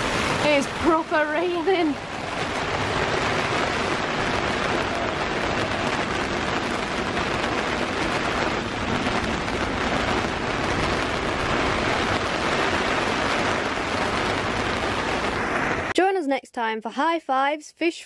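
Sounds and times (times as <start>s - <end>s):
heavy rain on a deck: 0.0s - 16.0s.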